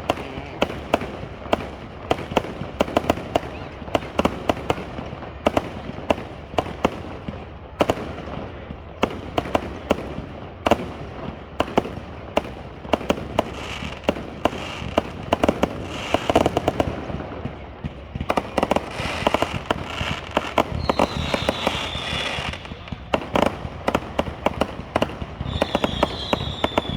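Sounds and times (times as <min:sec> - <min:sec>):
fireworks bangs and pops: 0:00.0 - 0:26.9
fireworks crackling: 0:00.0 - 0:26.9.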